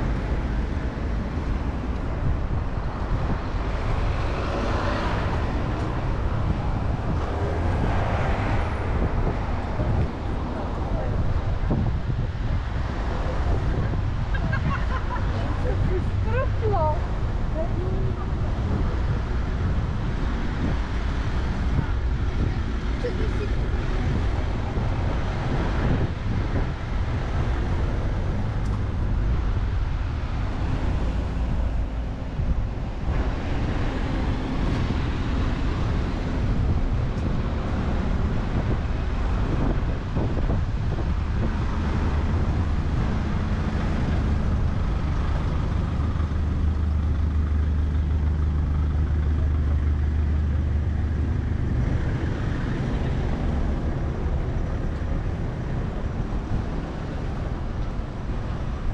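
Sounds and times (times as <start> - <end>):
motor vehicles passing: 0.0 - 58.9.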